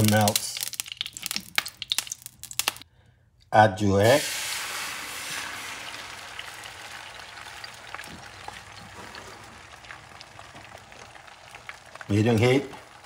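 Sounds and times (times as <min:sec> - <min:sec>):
eggs sizzling in a frying pan: 0:00.0 - 0:02.8, 0:04.1 - 0:13.0.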